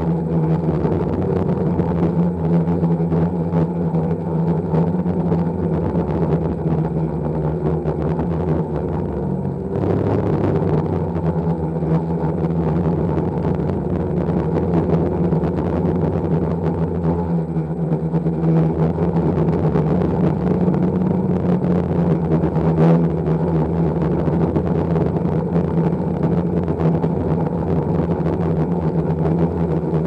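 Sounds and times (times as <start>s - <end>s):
drone motors humming: 0.0s - 30.0s.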